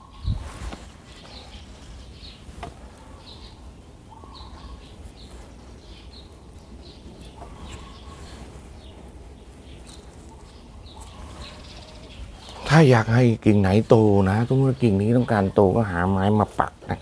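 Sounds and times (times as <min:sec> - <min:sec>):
steady low hum: 0:00.0 - 0:16.9
bird chirping: 0:00.0 - 0:17.0.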